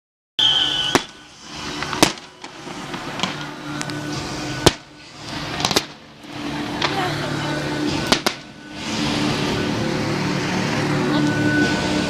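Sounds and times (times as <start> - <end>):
fireworks banging: 0.4 - 12.0
music playing: 0.4 - 12.0.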